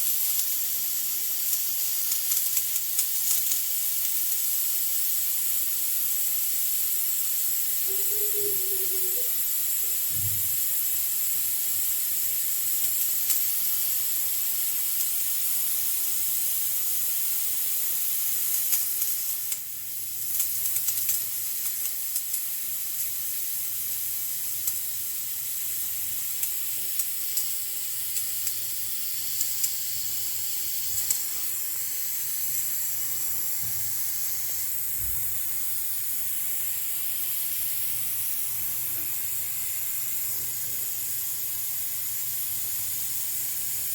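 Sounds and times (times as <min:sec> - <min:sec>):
pressure cooker steam hiss: 0:00.0 - 0:43.9.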